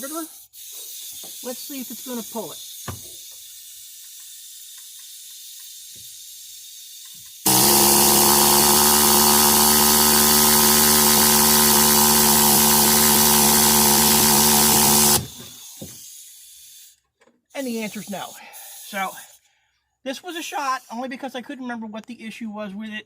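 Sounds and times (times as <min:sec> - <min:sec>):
pneumatic rivet gun hissing: 0:00.1 - 0:17.1, 0:17.8 - 0:19.4.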